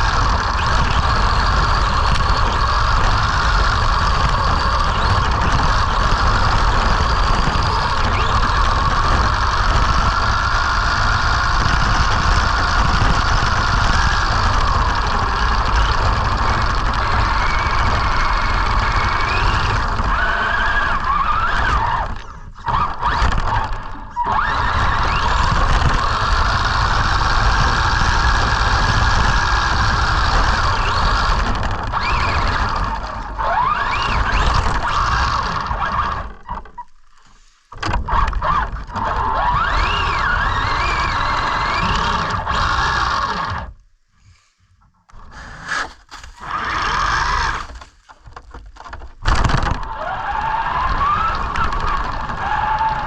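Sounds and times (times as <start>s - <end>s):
rc truck motor whining: 0.0s - 43.8s, 45.1s - 53.0s.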